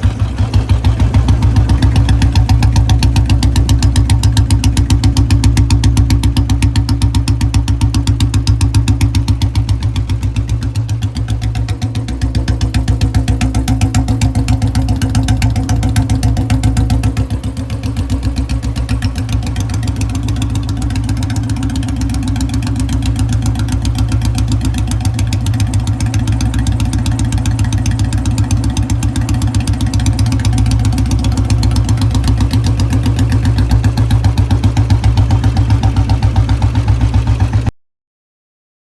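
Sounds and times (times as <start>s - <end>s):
motorcycle engine idling: 0.0s - 37.7s.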